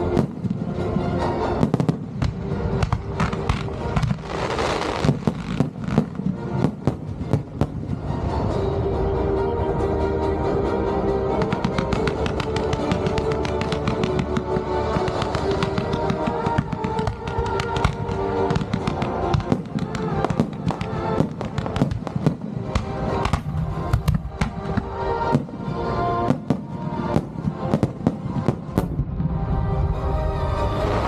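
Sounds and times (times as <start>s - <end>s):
music with held notes: 0.0s - 31.0s
fireworks cracking and banging: 1.5s - 8.5s, 11.4s - 29.4s.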